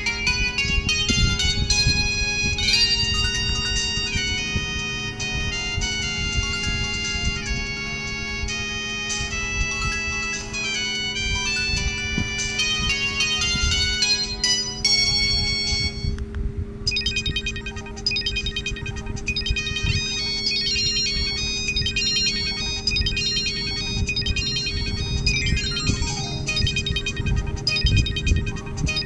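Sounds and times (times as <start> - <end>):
electronic phone ringtone melody: 0.0 - 16.2, 16.8 - 29.0
steady low hum: 0.0 - 29.0.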